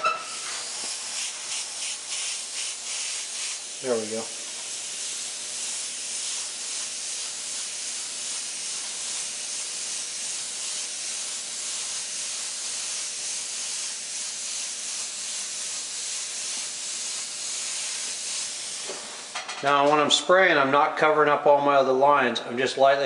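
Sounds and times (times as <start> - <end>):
airbrush spraying hiss: 0.0 - 19.8.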